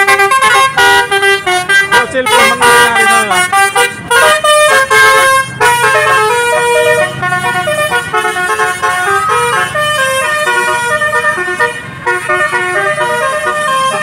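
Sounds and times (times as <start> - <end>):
bus multi-tone horn melody: 0.0 - 14.0.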